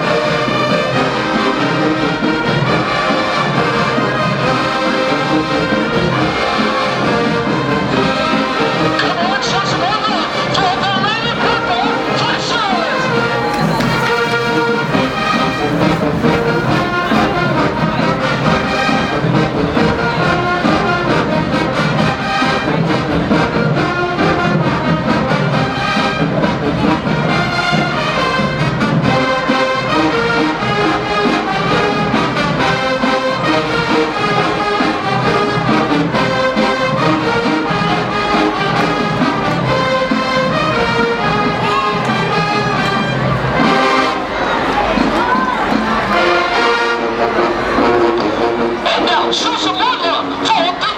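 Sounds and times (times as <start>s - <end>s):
rhythmic drumming: 0.0s - 49.7s
marching band brass tune: 0.0s - 50.9s.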